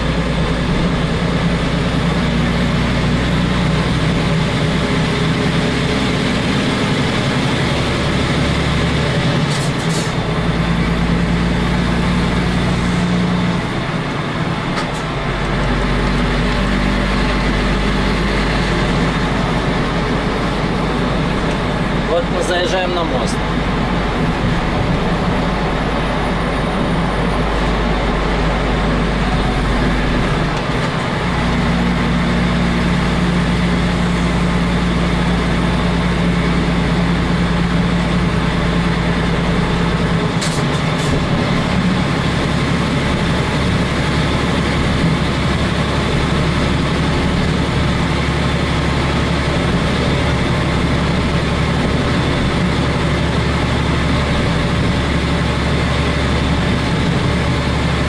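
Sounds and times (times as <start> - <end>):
road noise: 0.0 - 58.0
truck diesel engine running: 0.0 - 58.0.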